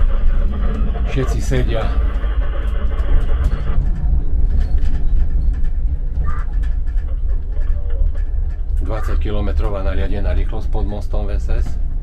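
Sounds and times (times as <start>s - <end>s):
tram rumbling along track: 0.0s - 12.0s.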